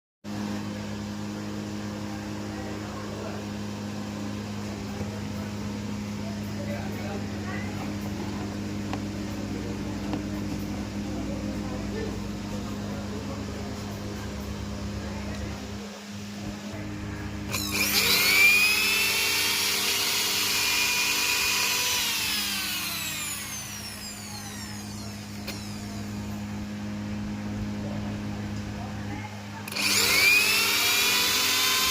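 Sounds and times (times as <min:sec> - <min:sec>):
steady low hum: 0:00.3 - 0:31.9
mixer grinder motor whining: 0:01.3 - 0:28.9, 0:29.5 - 0:31.9.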